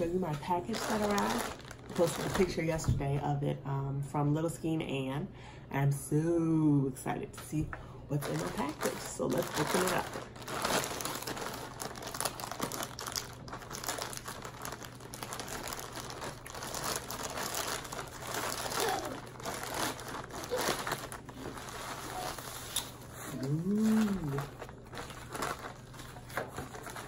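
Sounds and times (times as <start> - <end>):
plastic bag crinkling: 0.0 - 2.9, 8.2 - 27.0.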